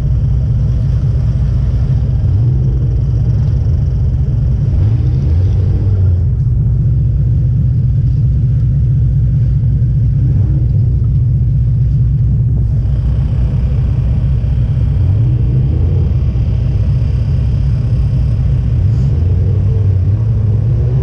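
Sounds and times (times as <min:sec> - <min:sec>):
car engine rumbling and revving: 0:00.0 - 0:21.0.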